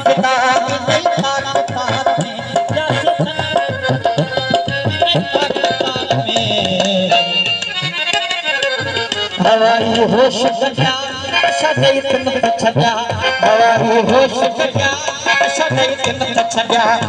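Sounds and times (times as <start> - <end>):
tabla drumming: 0.0 - 17.0.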